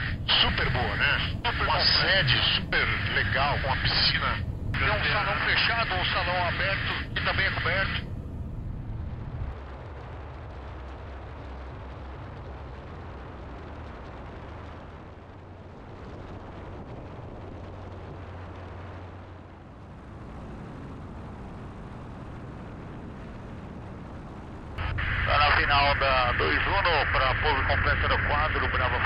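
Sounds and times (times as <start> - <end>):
light aircraft engine drone: 0.0 - 29.0.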